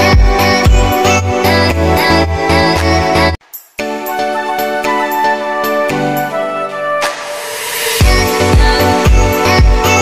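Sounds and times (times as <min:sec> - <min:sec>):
music with pulsing bass: 0:00.0 - 0:10.0.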